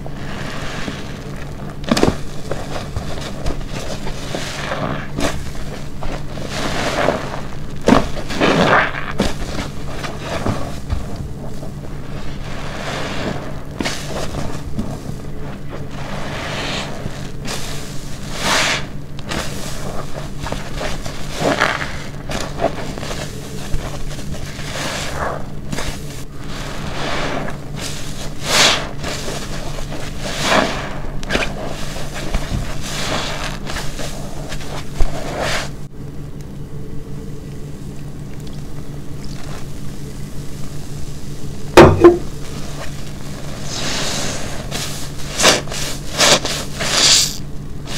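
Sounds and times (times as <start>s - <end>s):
wet sponge squishing: 0.0s - 35.8s, 41.8s - 47.9s
low steady hum: 0.0s - 47.9s.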